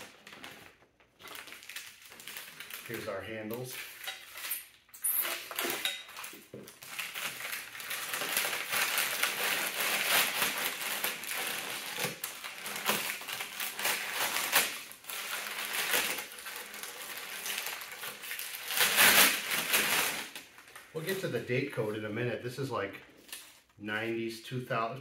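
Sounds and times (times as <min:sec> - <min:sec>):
sharp paper crackles: 0:00.0 - 0:04.7, 0:05.4 - 0:21.0
packing paper rustling and tearing: 0:00.0 - 0:21.2.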